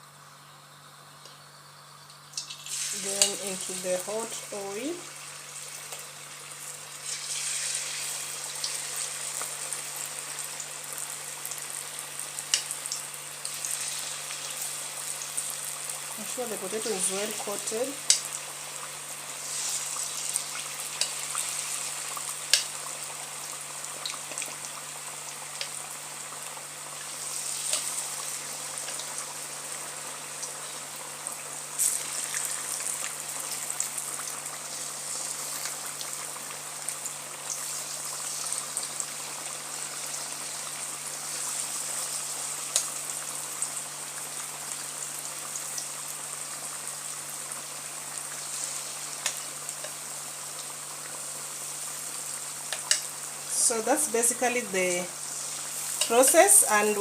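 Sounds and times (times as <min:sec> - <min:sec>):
food deep-frying in oil: 0:00.0 - 0:57.0
oil crackles and pops: 0:02.1 - 0:03.7, 0:05.3 - 0:54.1.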